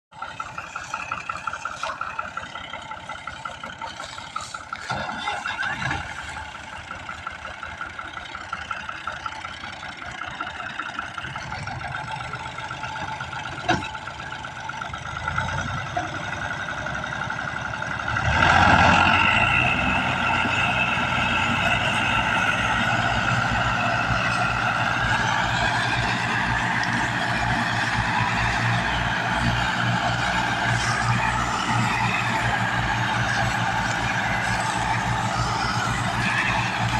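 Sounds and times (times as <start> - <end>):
tractor engine running: 0.1 - 36.9.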